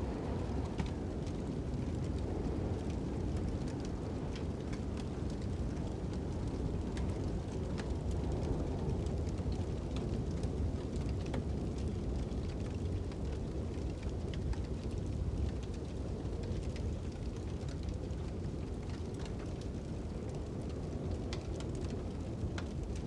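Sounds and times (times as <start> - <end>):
fire crackling and popping: 0.0 - 23.0
low rumble of wind: 0.0 - 23.0.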